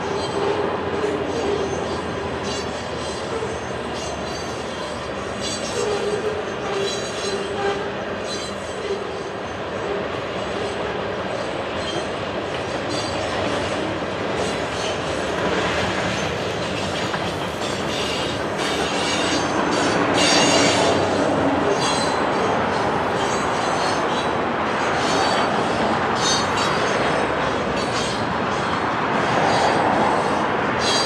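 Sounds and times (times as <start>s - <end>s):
steel wheels rolling on rail: 0.0s - 31.0s
train clatter: 0.0s - 31.0s.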